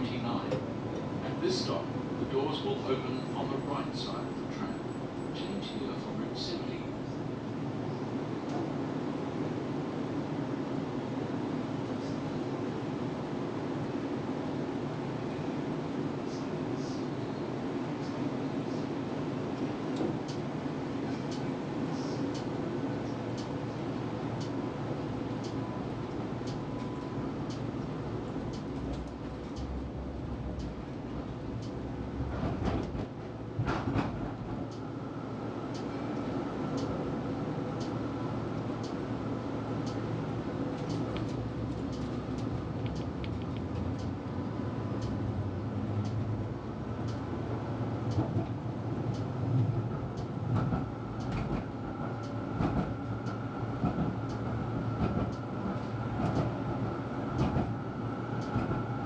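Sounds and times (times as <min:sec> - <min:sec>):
tram wheels rumbling on rails: 0:00.0 - 0:16.1, 0:16.7 - 0:59.0.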